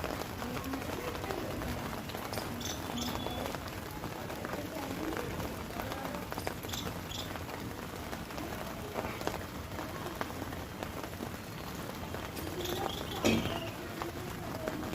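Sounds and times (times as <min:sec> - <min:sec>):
rain falling: 0:00.0 - 0:14.9
ticks of individual raindrops: 0:00.0 - 0:14.9.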